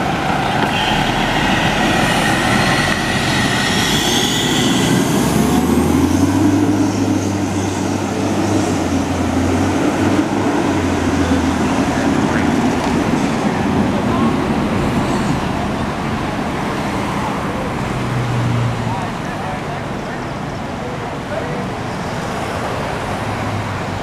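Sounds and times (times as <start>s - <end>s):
fire truck engine driving past: 0.0s - 23.9s.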